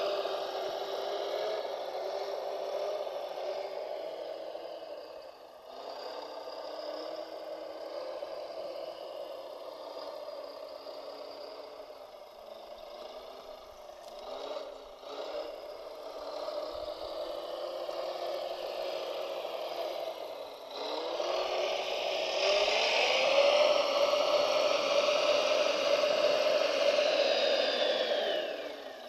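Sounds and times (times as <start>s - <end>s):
electric motor whine: 0.0s - 29.0s.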